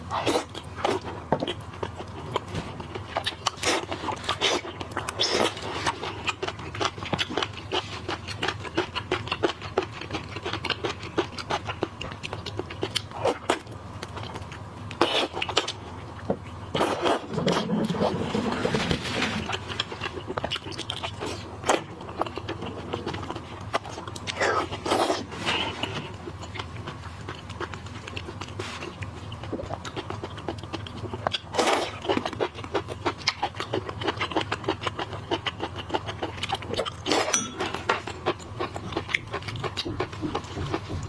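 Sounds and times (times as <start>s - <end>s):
wet chewing: 0.0s - 41.0s.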